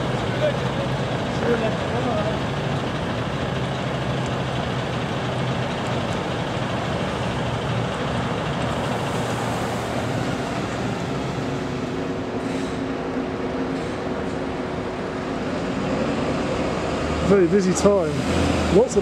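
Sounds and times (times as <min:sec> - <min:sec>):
diesel bus engine running: 0:00.0 - 0:19.0
traffic noise: 0:00.0 - 0:19.0.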